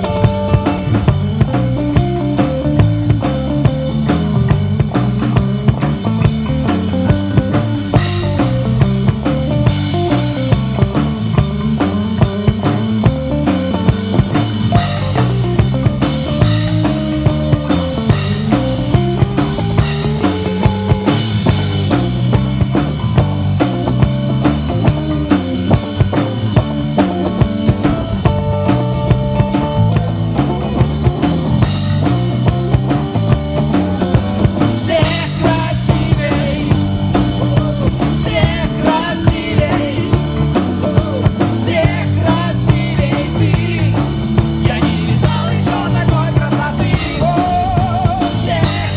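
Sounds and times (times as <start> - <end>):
electric guitar lead melody: 0.0 - 42.2
bass line: 0.0 - 48.9
drum kit beat: 0.0 - 48.9.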